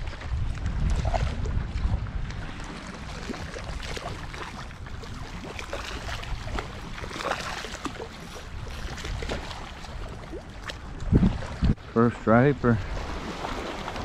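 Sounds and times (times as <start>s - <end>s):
small waves lapping on shore: 0.0s - 14.0s
wind rumbling on microphone: 0.0s - 14.0s.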